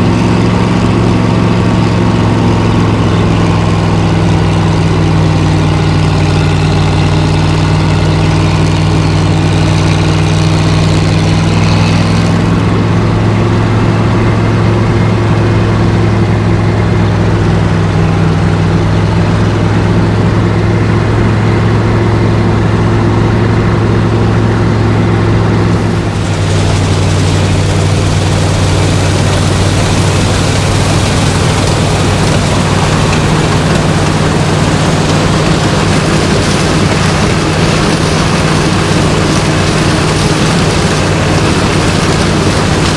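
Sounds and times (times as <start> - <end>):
farm machine engine running: 0.0 - 42.9.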